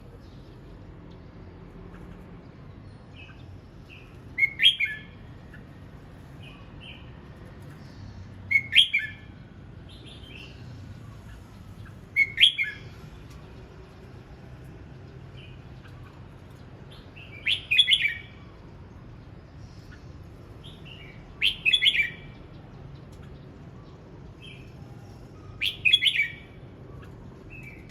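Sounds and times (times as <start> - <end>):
soft bird chirps: 0.0 - 27.9.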